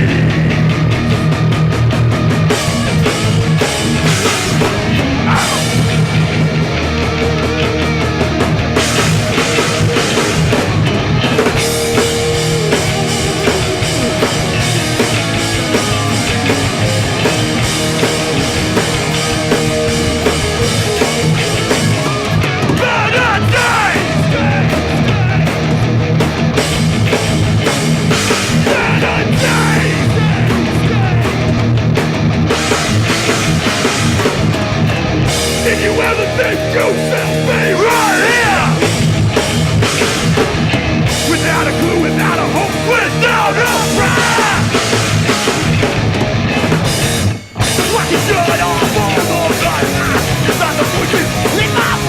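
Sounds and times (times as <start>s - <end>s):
bass guitar: 0.0s - 52.0s
distorted electric guitars: 0.0s - 52.0s
drum kit: 0.0s - 52.0s.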